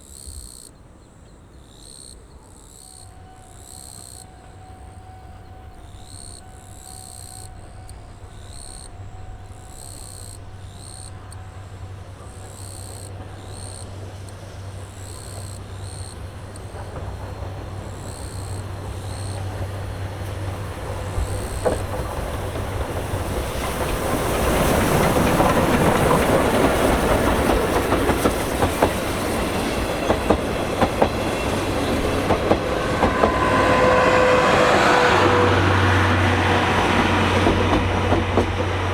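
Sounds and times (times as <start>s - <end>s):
train wheels rumbling on rail: 0.0s - 38.9s
wheels clacking over rail joints: 0.0s - 38.9s.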